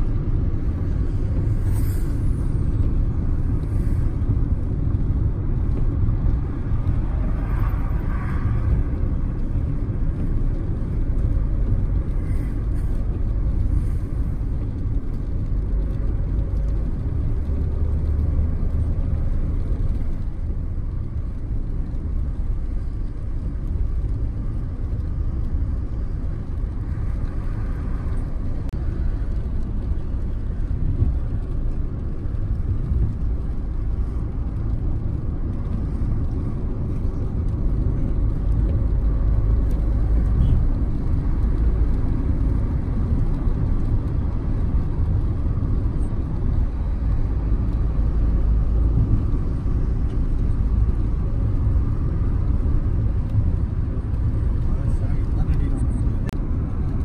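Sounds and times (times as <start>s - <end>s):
car road noise inside cabin: 0.0s - 57.0s
tyre and engine rumble: 0.0s - 57.0s.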